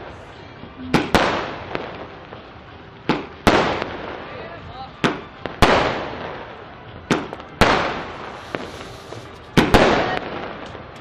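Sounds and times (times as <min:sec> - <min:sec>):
fireworks banging: 0:00.8 - 0:04.3, 0:05.0 - 0:11.0.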